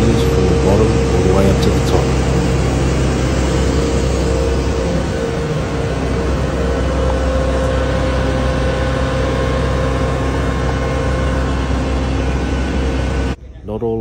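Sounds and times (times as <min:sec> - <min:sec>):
industrial machinery rushing hiss: 0:00.0 - 0:13.4.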